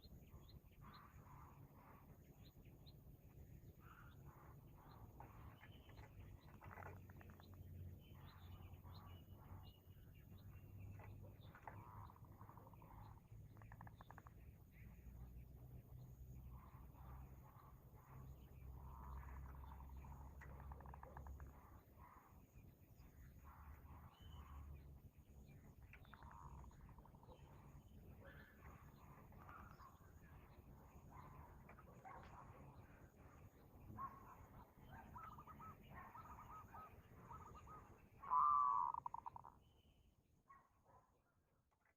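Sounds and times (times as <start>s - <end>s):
steady low hum: 0.0s - 39.9s
birds chirping and trilling: 0.0s - 41.1s.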